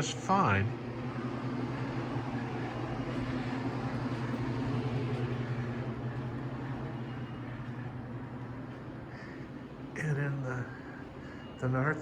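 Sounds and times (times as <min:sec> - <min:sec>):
ventilation system humming: 0:00.0 - 0:12.0.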